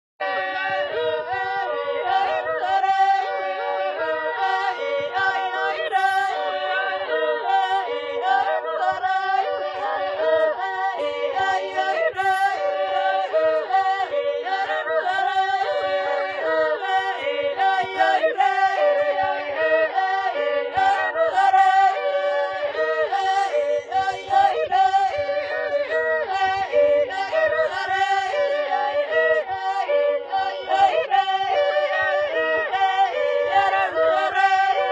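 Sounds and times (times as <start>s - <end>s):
voices singing a cappella: 0.2s - 34.9s.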